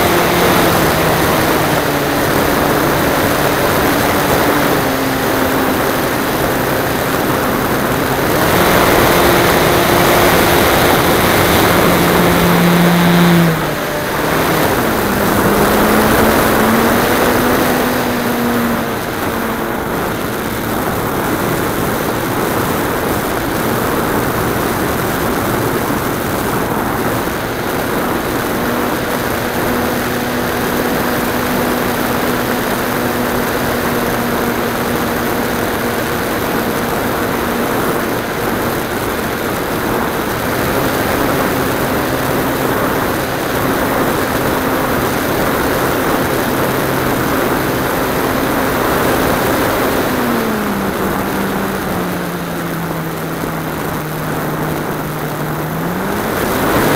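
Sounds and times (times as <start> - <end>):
loud wind rush: 0.0 - 56.9
model airplane engine drone: 0.0 - 56.9.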